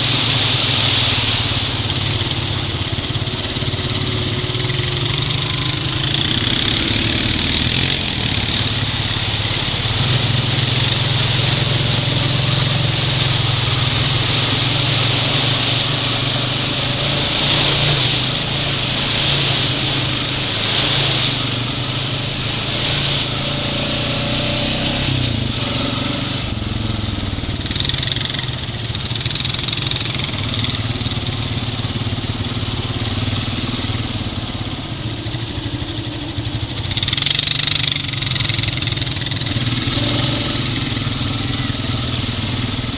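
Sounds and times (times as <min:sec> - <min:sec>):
atv engine running: 0:00.0 - 0:42.9
tyres hissing through water: 0:00.0 - 0:42.9.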